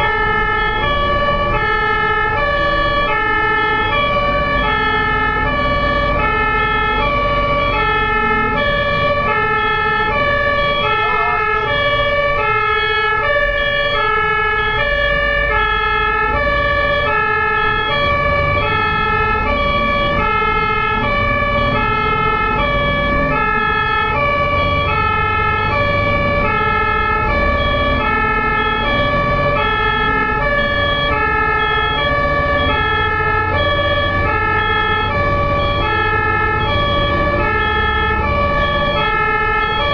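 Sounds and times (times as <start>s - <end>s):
ambulance two-tone siren: 0.0s - 39.9s
vehicle and road rumble: 0.0s - 39.9s.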